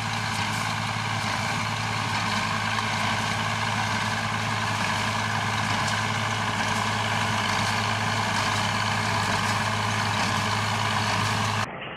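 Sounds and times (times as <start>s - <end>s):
tractor diesel engine running: 0.0s - 11.7s.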